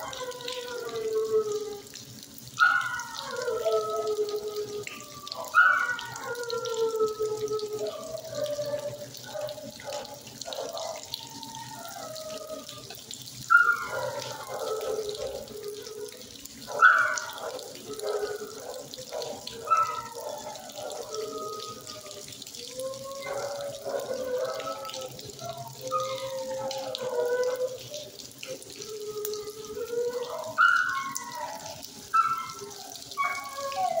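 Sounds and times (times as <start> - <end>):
dogs barking and howling: 0.0 - 34.0.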